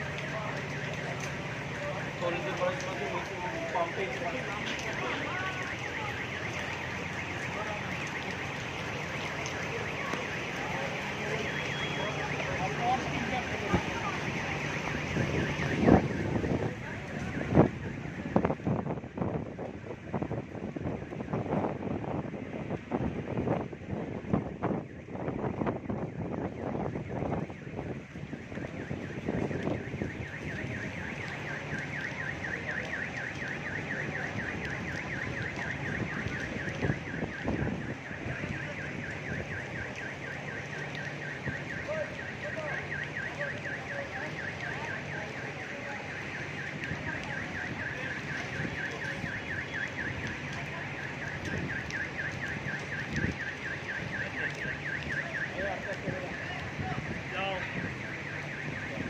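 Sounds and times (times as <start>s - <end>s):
car alarm pulsing tone: 0.1s - 18.6s, 24.3s - 59.0s.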